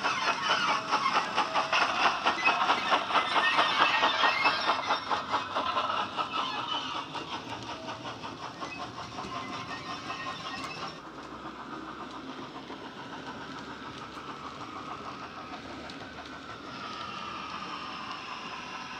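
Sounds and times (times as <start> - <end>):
model train steam sounds: 0.0 - 18.9
rhythmic train clatter: 0.0 - 18.9.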